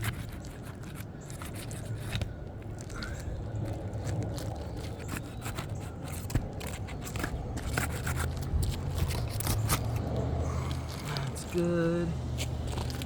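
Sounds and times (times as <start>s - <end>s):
shingle scraping and crackling: 0.0s - 11.6s.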